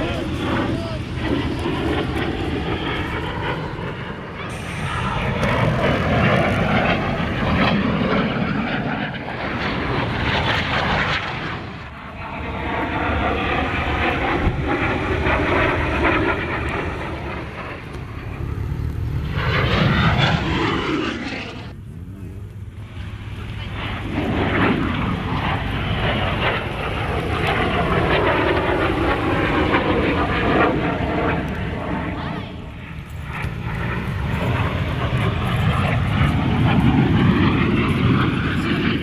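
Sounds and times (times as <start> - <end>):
jet roaring past overhead: 0.0 - 39.0.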